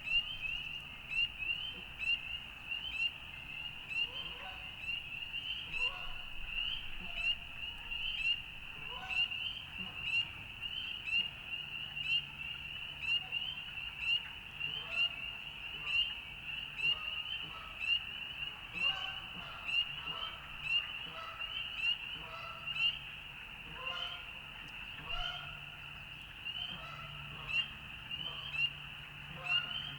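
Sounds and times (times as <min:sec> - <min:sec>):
frogs chorus peeping: 0:00.0 - 0:29.9.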